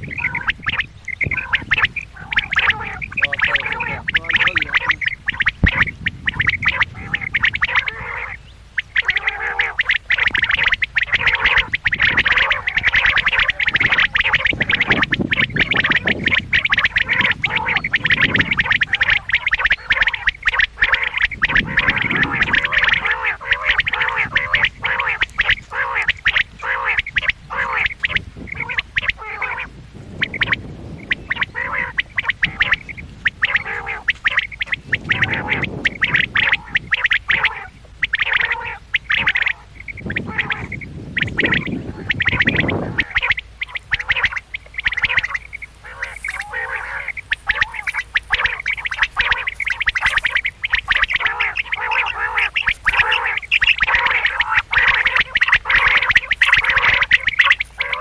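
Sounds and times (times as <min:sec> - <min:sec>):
low rumbling: 0:00.0 - 0:58.0
quails calling: 0:00.0 - 0:58.0.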